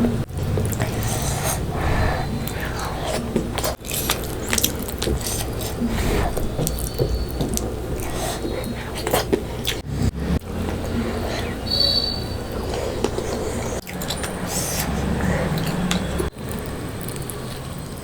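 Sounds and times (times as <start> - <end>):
steady low hum: 0.0 - 17.8
chewing food: 0.0 - 18.0
wet mouth clicks and smacks: 0.5 - 9.8, 12.5 - 18.0.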